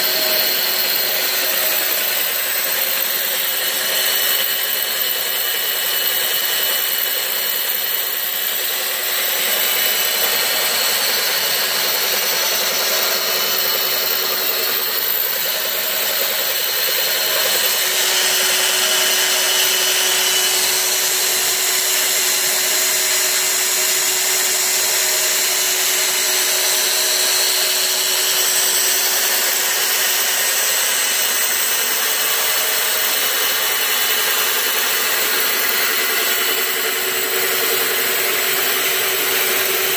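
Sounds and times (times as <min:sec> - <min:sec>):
electric drill motor whine: 0:00.0 - 0:39.9.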